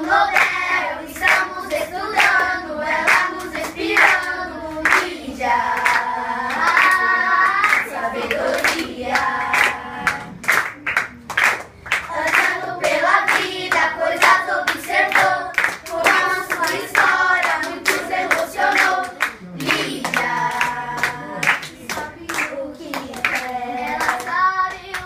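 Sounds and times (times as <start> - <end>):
children singing in unison: 0.0 - 10.4, 12.1 - 25.0
hand claps: 1.2 - 1.5, 3.1 - 5.1, 5.8 - 25.0.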